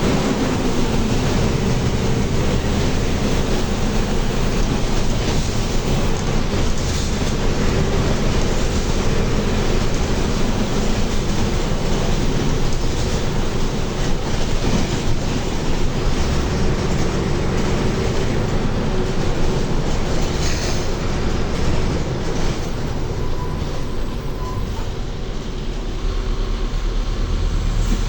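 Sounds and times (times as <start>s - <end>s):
bus body rattle: 0.0s - 28.0s
bus diesel engine running: 0.0s - 28.0s
road noise: 0.0s - 28.0s.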